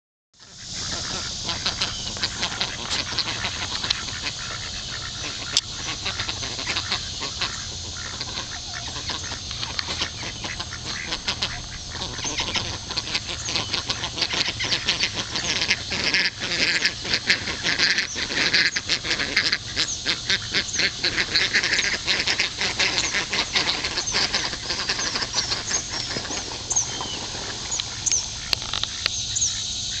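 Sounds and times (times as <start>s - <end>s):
ducks quacking: 0.4s - 30.0s.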